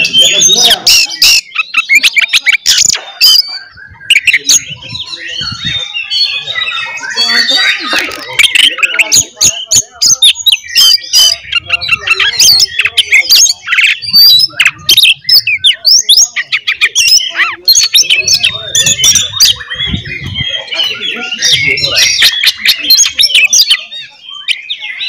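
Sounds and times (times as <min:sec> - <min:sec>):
magpie-robin singing: 0:00.0 - 0:25.0.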